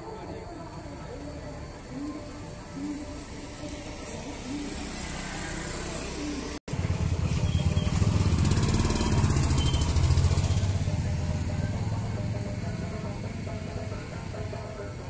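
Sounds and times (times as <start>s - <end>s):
motorcycle riding past: 2.8s - 15.0s.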